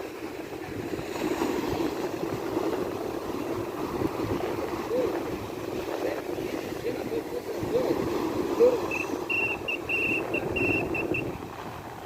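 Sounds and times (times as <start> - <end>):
sea waves on beach: 0.0 - 12.0.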